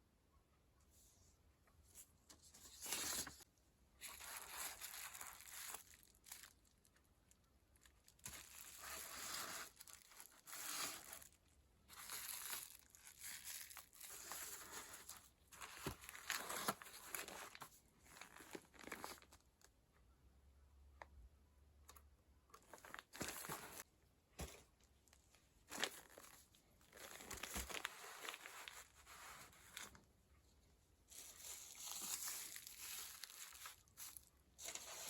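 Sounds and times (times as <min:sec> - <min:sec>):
rustling and crinkling: 0:01.9 - 0:19.7, 0:21.9 - 0:35.0.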